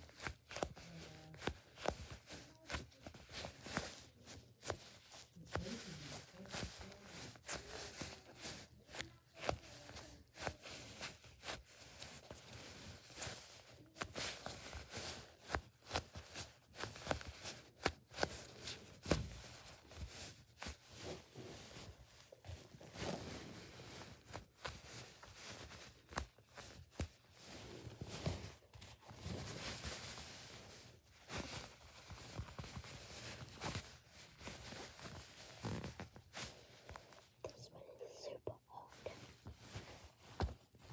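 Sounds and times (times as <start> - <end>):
foam toys squished by hands: 0.0 - 36.8.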